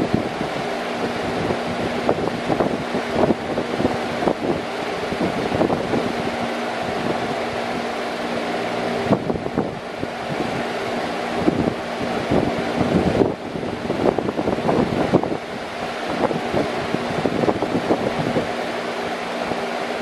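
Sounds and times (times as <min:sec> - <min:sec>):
air gusts buffeting microphone: 0:00.0 - 0:20.0
electric fan running: 0:00.0 - 0:20.0.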